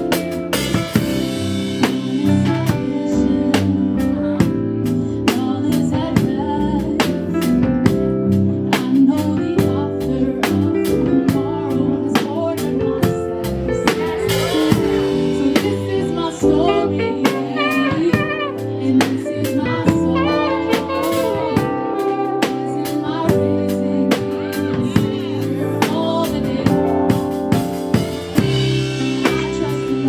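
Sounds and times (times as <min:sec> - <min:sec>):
drum kit beat: 0:00.0 - 0:30.0
gospel band playing: 0:00.0 - 0:30.0.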